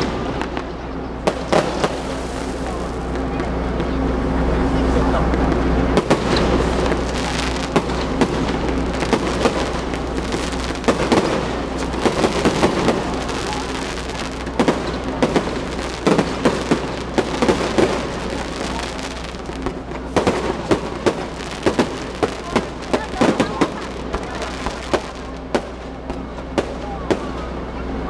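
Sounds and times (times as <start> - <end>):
fireworks popping and crackling: 0.0 - 27.6.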